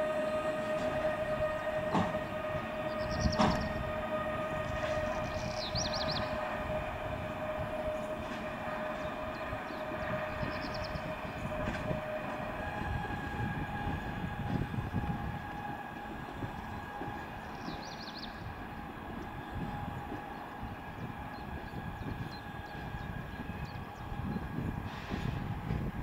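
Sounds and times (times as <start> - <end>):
train wheel rumble: 0.0 - 26.0.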